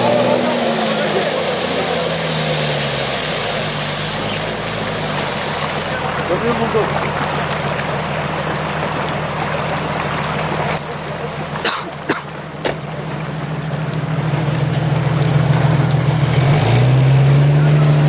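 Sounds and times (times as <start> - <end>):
engine running under load: 0.0 - 18.0.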